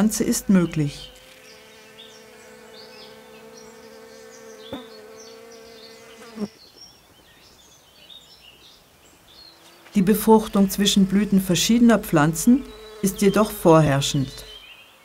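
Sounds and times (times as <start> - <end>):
bee buzzing in flight: 0.0 - 6.6, 9.3 - 15.0.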